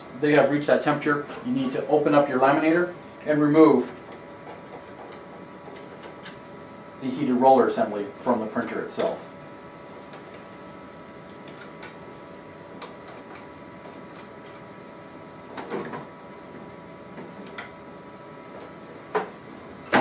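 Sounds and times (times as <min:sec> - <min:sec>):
printer hum: 0:00.0 - 0:20.0.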